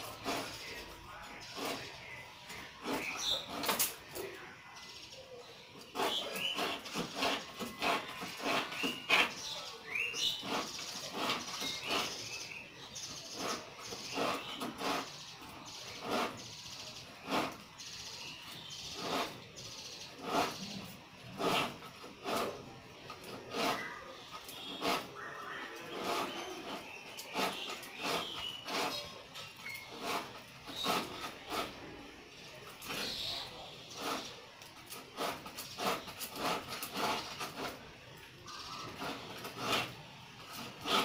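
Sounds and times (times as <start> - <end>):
knife scraping fish scales: 0.0 - 4.3, 5.8 - 41.0
birds chirping: 0.0 - 41.0.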